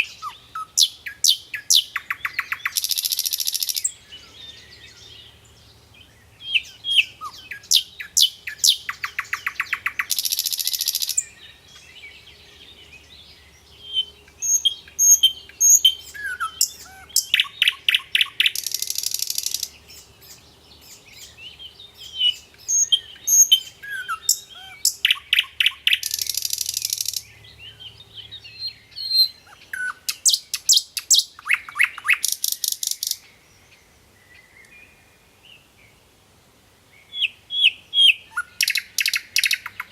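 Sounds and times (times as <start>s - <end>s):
songbird chirping with buzzy trill: 0.0s - 39.9s.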